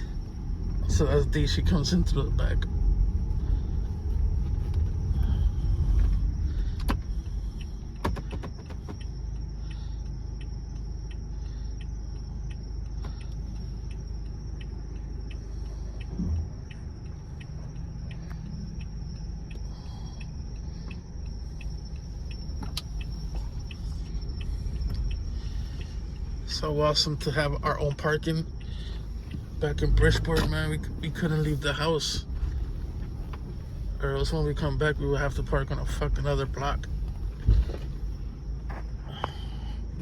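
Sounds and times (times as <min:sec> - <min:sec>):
car engine low rumble: 0:00.0 - 0:40.0
light clicks: 0:03.2 - 0:40.0.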